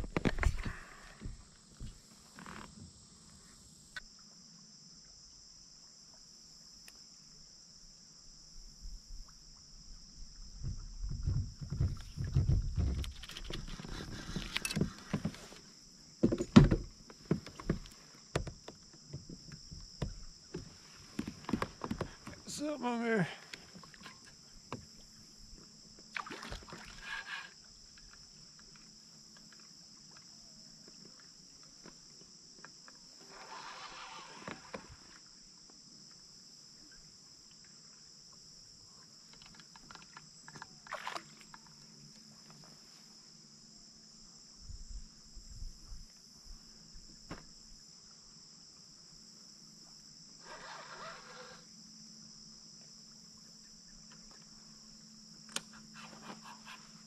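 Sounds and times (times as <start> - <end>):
high-pitched insect chorus: 0.1 - 57.0.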